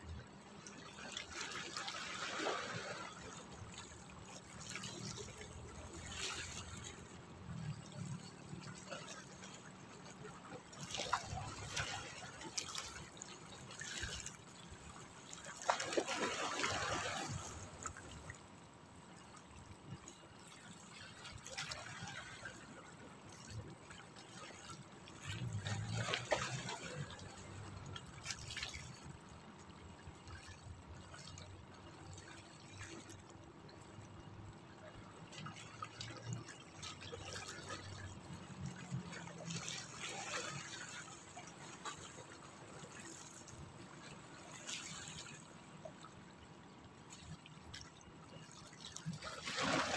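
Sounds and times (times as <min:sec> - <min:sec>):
water lapping on rocks: 0:00.0 - 0:49.9.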